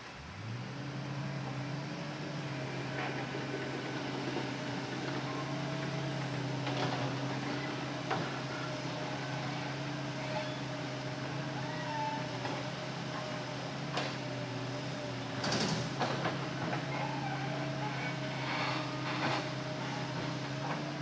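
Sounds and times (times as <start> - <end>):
excavator engine humming: 0.0 - 21.0.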